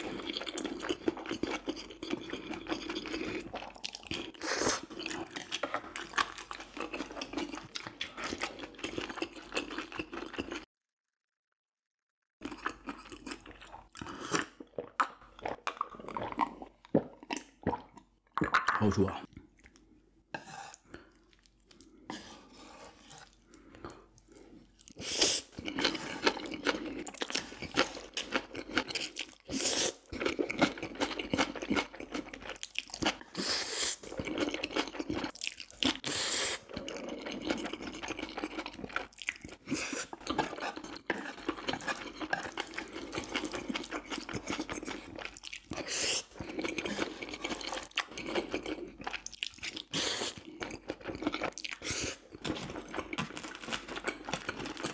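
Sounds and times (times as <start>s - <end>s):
chewing food: 0.0s - 10.7s, 12.4s - 20.0s, 20.6s - 54.9s.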